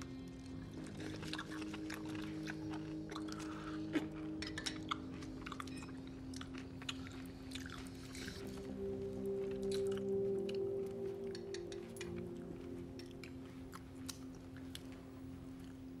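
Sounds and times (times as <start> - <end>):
faint steady hum: 0.0 - 16.0
chewing: 0.1 - 16.0.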